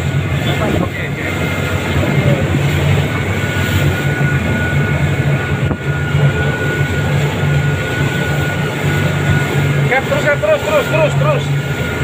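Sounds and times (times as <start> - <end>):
outboard motors droning: 0.0 - 12.0
rush of wind and water: 0.0 - 12.0.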